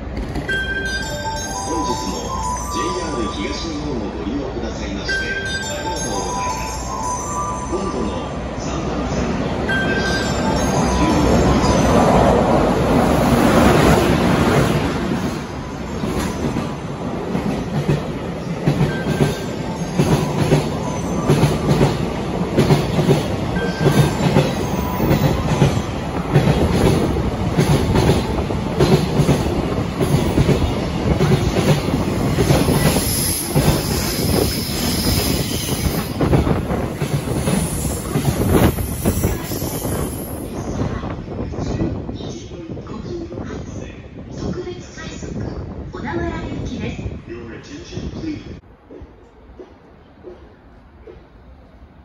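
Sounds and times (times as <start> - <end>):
electric locomotive passing: 0.0 - 46.0.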